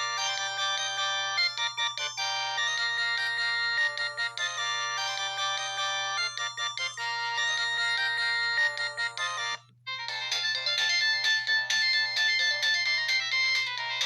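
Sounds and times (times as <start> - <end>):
chiming electronic ringtone melodies: 0.0 - 14.0.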